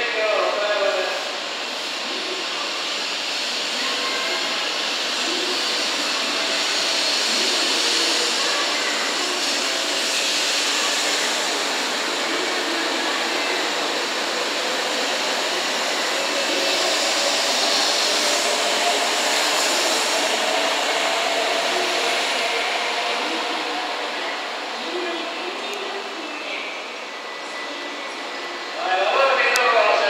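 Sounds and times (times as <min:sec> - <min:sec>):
train rushing hiss: 0:00.0 - 0:30.0.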